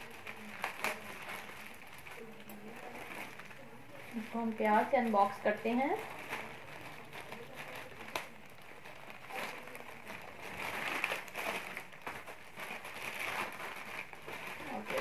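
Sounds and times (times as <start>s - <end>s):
plastic bag crinkling and rustling: 0.0s - 15.0s.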